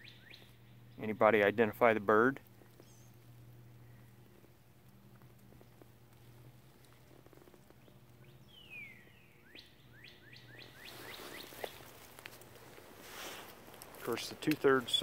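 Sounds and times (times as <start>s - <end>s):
songbird singing: 0.0s - 12.8s
faint low hum: 0.0s - 15.0s.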